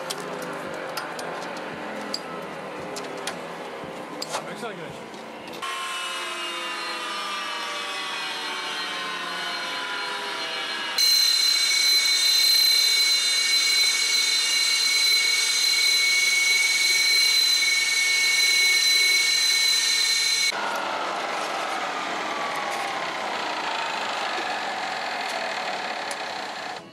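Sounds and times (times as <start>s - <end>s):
jet engine whine: 5.2s - 26.9s.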